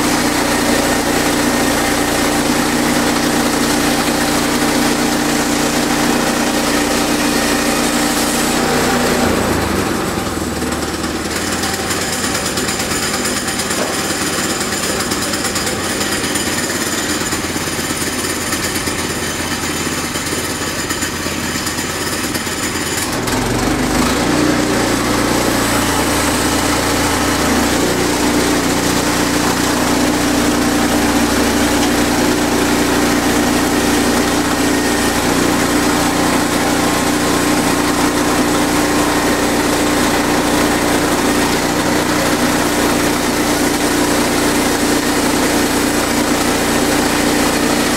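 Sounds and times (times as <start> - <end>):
sawmill mechanical whine: 0.0 - 47.9.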